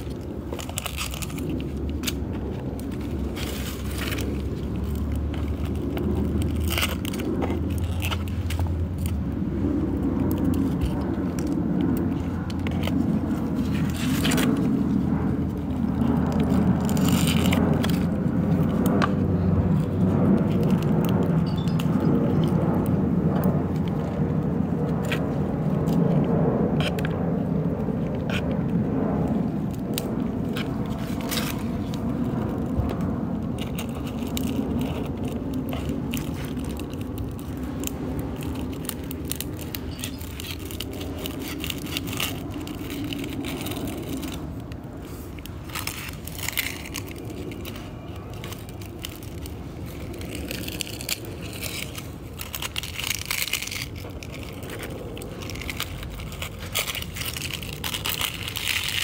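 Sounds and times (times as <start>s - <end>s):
dry leaves crackling and snapping: 0.0s - 59.0s
steady low rumble: 0.0s - 59.0s.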